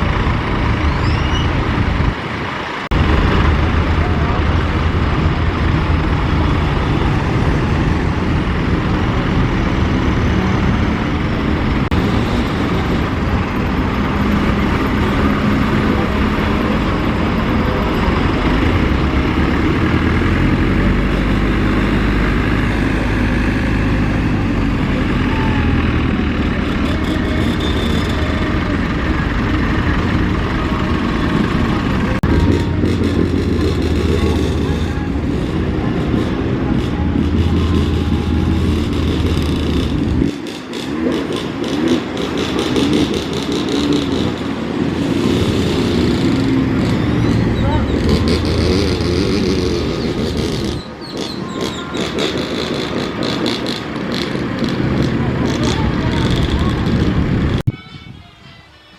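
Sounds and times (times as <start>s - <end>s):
tractor engines running: 0.0s - 58.9s.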